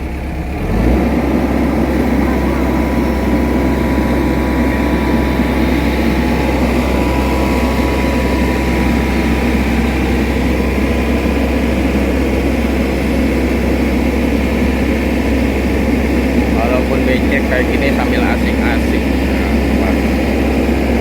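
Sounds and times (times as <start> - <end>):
diesel engine humming: 0.0 - 21.0.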